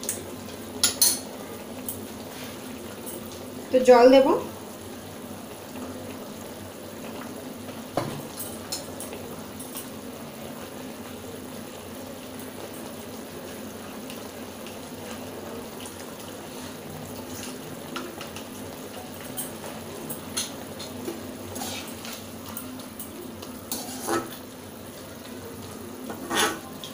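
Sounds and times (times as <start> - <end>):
gravy simmering and bubbling: 0.0 - 26.9.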